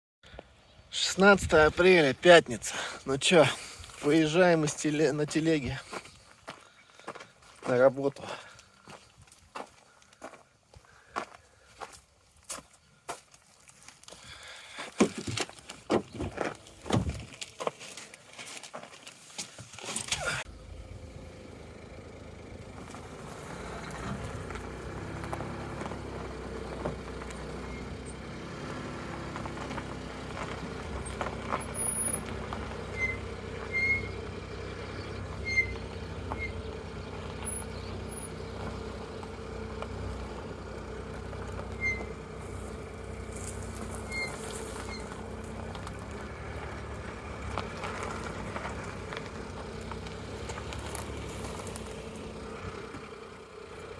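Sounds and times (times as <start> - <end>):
brakes squeaking: 0.3 - 53.9
car road and engine rumble: 0.3 - 53.9.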